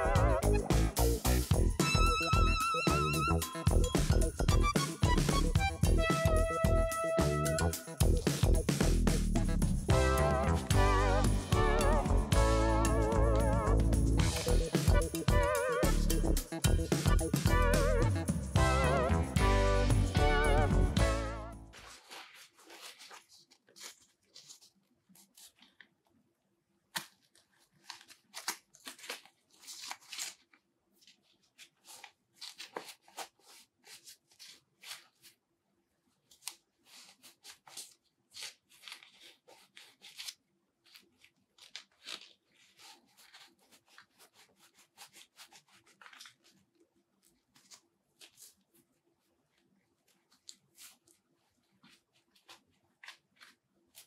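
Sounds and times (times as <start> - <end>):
glove rustling and rubbing: 0.0 - 54.0.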